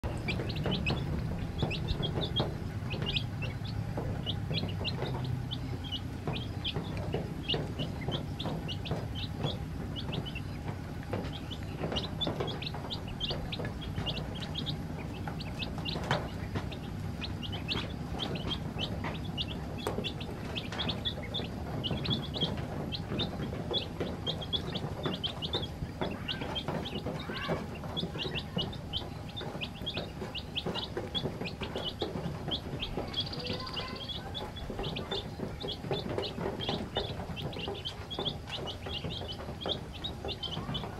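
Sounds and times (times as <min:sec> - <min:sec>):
chicks and ducklings peeping: 0:00.0 - 0:40.9.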